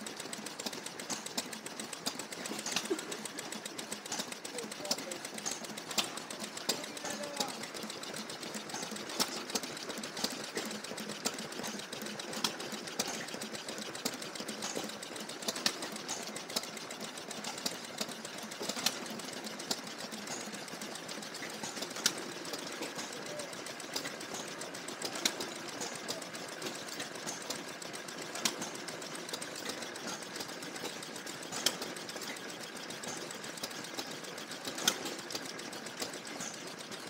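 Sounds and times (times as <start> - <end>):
stationary engine clattering: 0.0 - 37.0.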